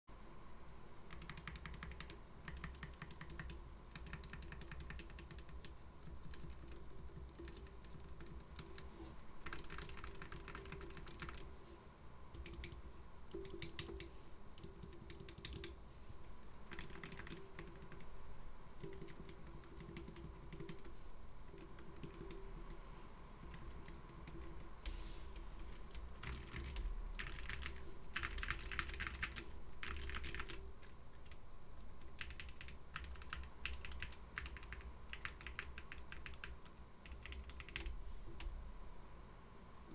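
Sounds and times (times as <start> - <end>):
mechanical keyboard typing: 1.1 - 11.5, 12.3 - 15.8, 16.7 - 18.1, 18.8 - 22.7, 23.4 - 24.9, 25.6 - 31.4, 32.0 - 38.5.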